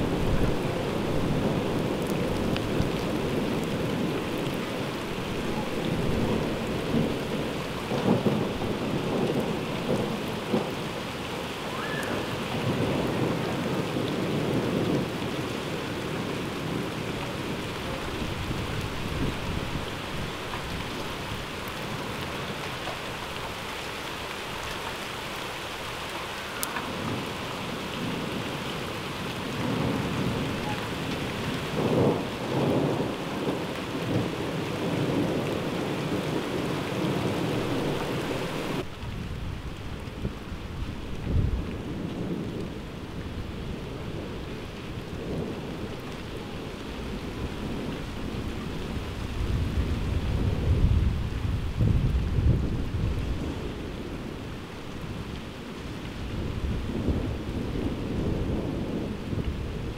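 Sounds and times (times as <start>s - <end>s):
rolling thunder: 0.0s - 21.0s, 29.5s - 38.2s, 38.8s - 55.2s, 56.2s - 59.9s
heavy rain: 0.0s - 59.9s.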